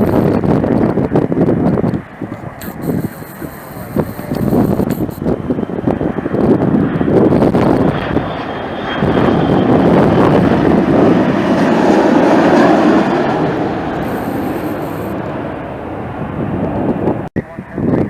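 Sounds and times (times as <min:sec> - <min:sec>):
jet engines roaring: 0:00.0 - 0:17.3
wind buffeting microphone: 0:00.0 - 0:18.0.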